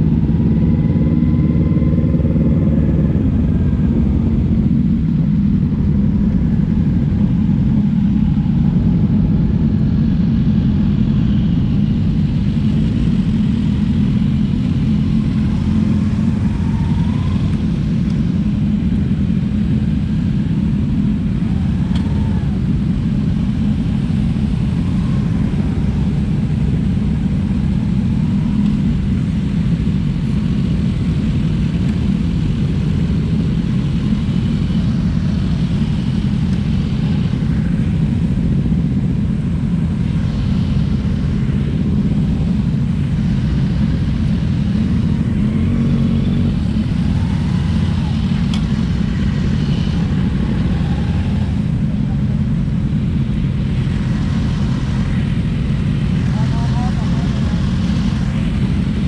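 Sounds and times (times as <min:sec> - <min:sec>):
motorcycle engine running at low speed: 0:00.0 - 0:59.0
other motorcycle engines: 0:00.0 - 0:59.0.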